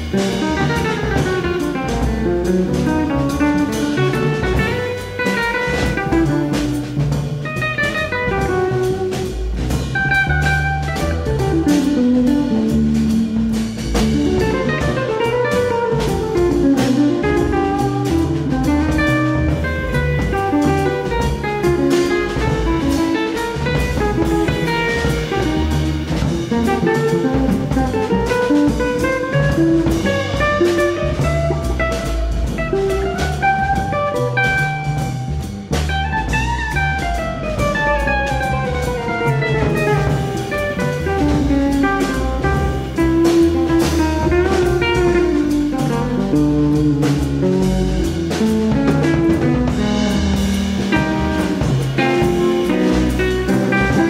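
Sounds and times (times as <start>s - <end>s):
steady drum beat: 0.0s - 54.0s.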